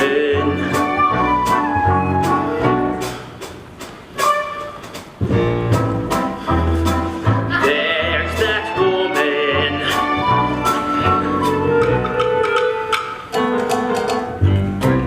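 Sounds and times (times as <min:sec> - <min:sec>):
instrumental chase music: 0:00.0 - 0:15.0.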